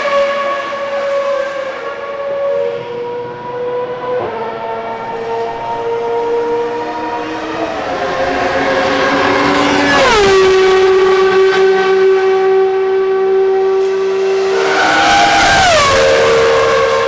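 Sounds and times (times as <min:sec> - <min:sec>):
racing cars passing at speed: 0:00.0 - 0:17.0.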